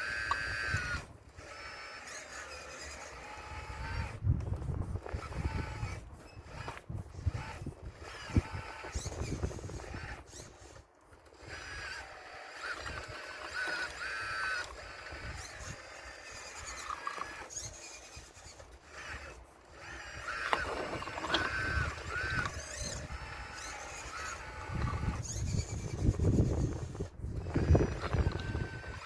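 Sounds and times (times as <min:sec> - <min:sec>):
model excavator motor whining: 0:00.0 - 0:29.0.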